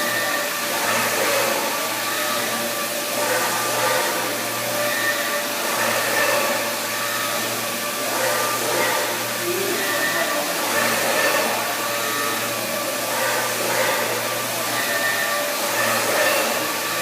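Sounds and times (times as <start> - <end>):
electric sander whine: 0.0 - 17.0.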